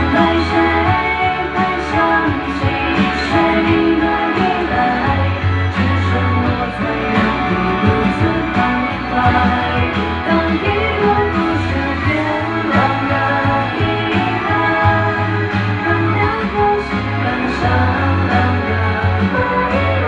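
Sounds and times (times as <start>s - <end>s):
live band playing pop ballad: 0.0s - 20.0s.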